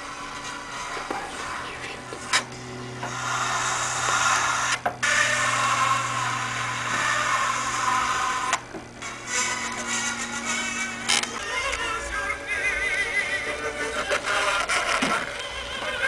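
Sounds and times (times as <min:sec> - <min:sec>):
scratchy record playback: 0:00.0 - 0:16.0
turntable motor hum: 0:00.0 - 0:16.0.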